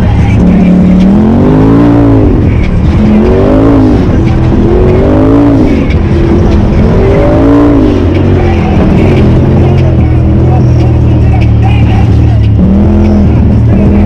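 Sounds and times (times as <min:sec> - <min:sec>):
turbocharged engine revving: 0:00.0 - 0:14.0.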